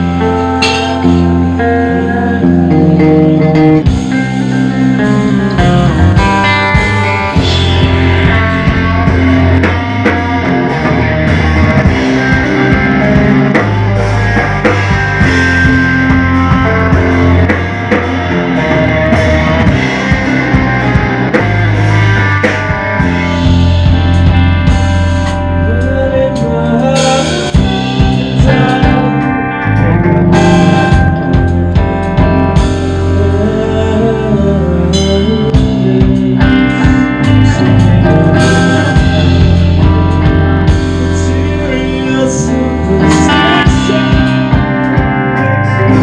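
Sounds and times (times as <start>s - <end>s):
drum kit beat: 0.0s - 46.0s
post-rock band playing live: 0.0s - 46.0s.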